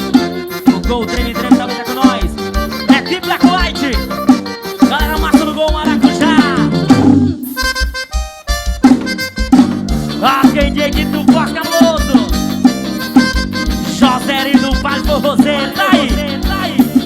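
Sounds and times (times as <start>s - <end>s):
bending lead melody: 0.0s - 17.0s
held chords: 0.0s - 17.0s.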